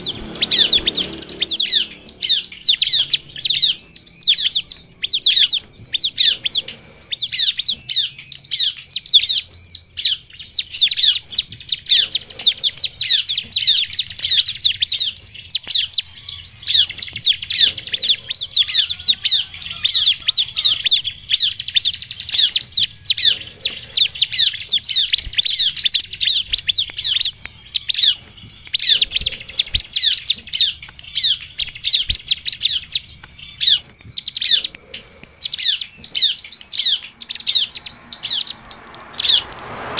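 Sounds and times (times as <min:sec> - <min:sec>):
bird singing high sharp chirps: 0:00.0 - 0:39.9.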